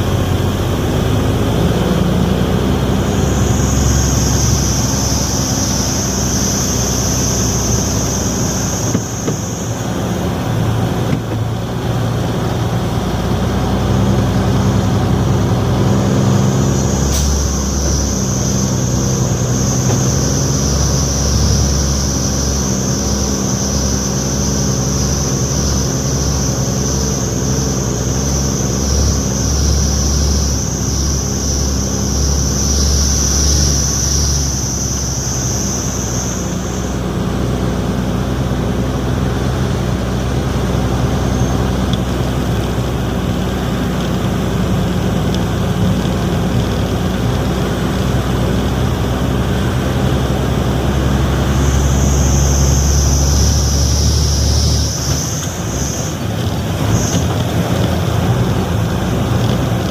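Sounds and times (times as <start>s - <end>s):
high-pitched whine: 0.0s - 59.9s
road noise: 0.0s - 59.9s
truck engine running: 0.0s - 59.9s.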